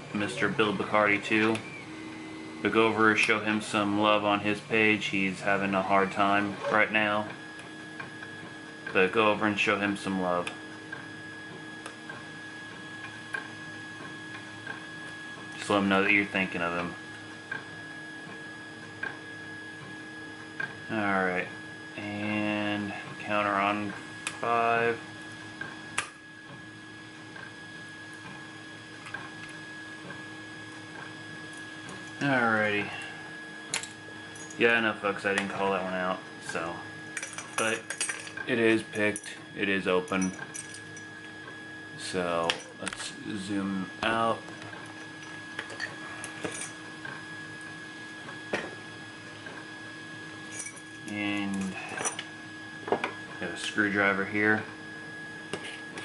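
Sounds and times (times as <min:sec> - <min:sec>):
hum of printers: 0:00.0 - 0:56.0.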